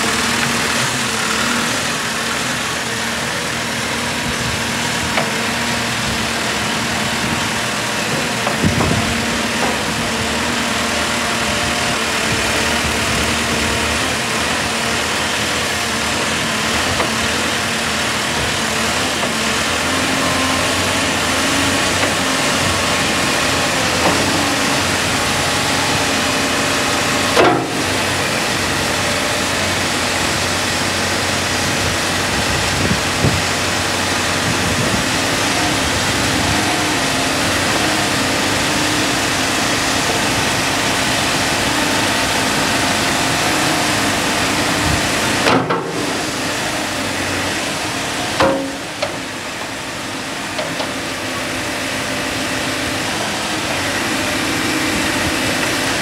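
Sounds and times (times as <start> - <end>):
diesel engine running: 0.0 - 56.0
hydraulic arm working: 0.0 - 56.0.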